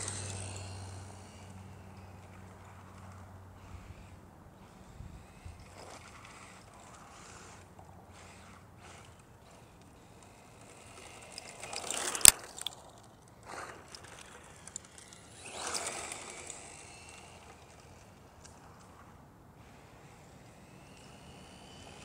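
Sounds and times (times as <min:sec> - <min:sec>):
rc car motor and tyres: 0:00.0 - 0:22.0.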